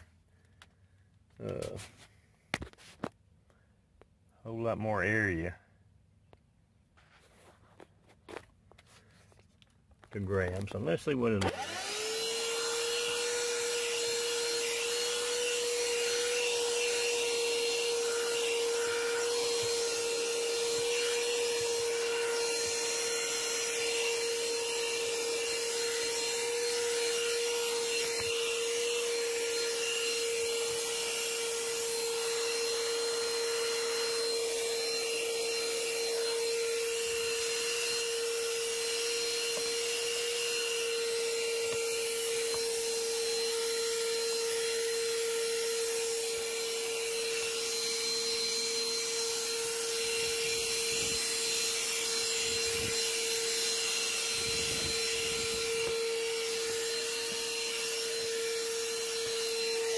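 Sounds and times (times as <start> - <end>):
handheld vacuum running: 10.5 - 59.9.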